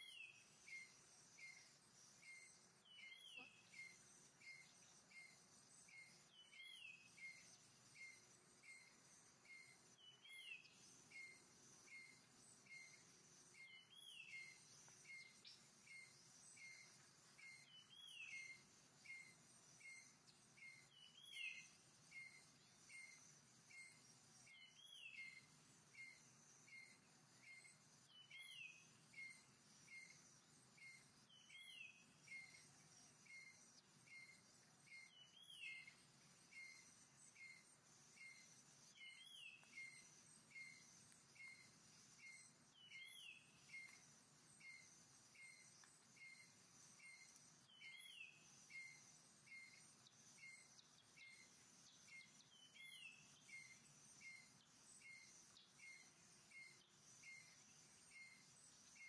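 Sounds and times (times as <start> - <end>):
bird chirping: 0.0 - 59.0
high insect hum: 0.0 - 59.0.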